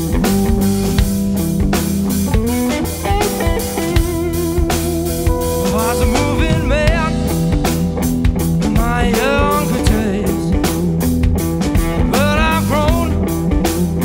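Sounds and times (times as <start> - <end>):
drum kit beat: 0.0 - 14.0
electric bass: 0.0 - 14.0
electric guitar: 0.0 - 14.0.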